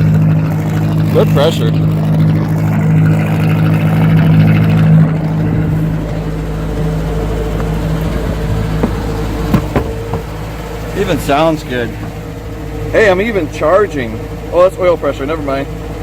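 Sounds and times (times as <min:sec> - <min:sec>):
boat engine running: 0:00.0 - 0:16.0
exhaust discharging water: 0:00.0 - 0:16.0.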